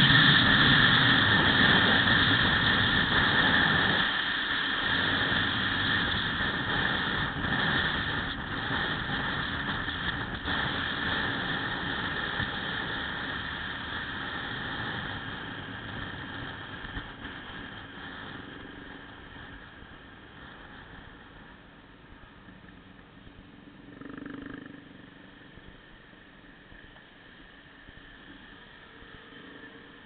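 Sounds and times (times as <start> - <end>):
passing motorcycle engine: 0.0 - 30.0
small motorcycle engine cruising: 0.0 - 30.0
wind and road noise: 0.0 - 30.0.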